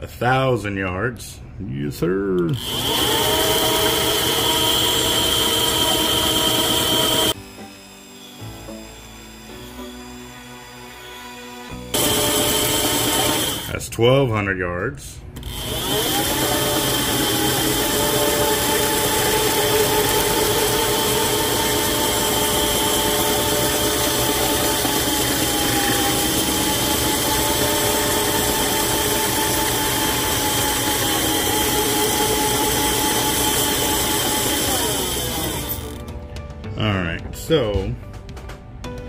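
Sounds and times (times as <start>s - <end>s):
line-spooling machine motor whine: 2.6s - 13.7s, 15.4s - 36.0s.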